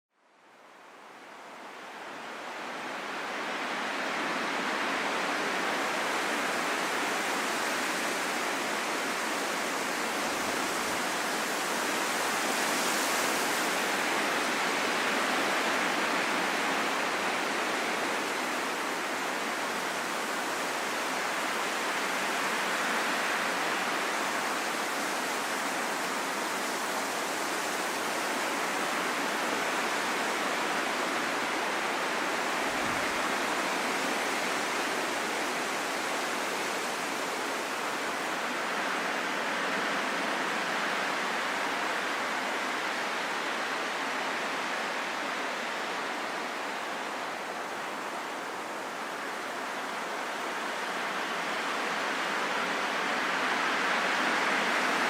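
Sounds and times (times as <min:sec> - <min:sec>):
wind blowing: 0:01.4 - 0:55.0.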